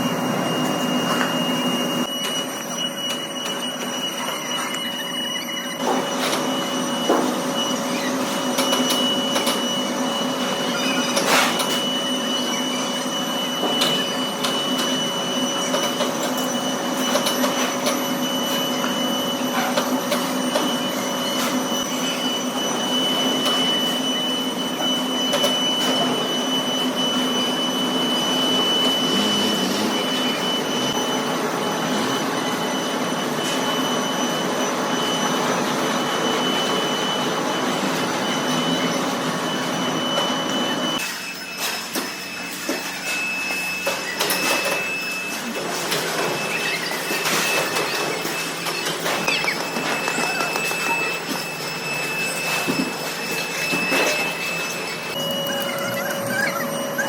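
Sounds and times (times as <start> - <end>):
metalworking machinery whine and hum: 0.0 - 57.0.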